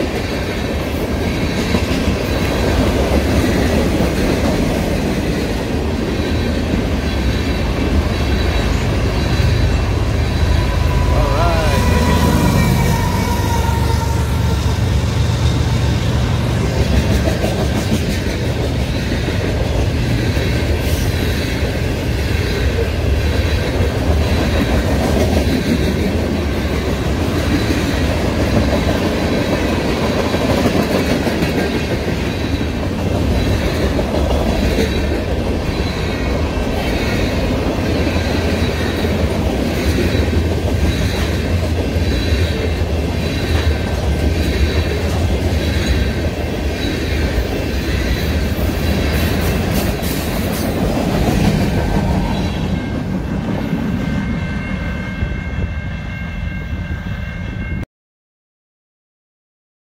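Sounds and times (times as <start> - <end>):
freight train wheels on rail: 0.0 - 57.8.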